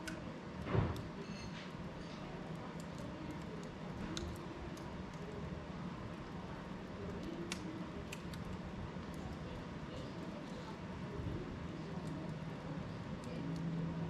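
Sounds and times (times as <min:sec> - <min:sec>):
fire burning in a fireplace: 0:00.0 - 0:14.0.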